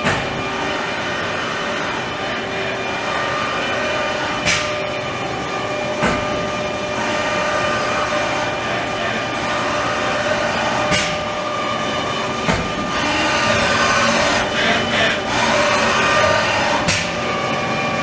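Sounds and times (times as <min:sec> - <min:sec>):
lathe humming and whining: 0:00.0 - 0:18.0.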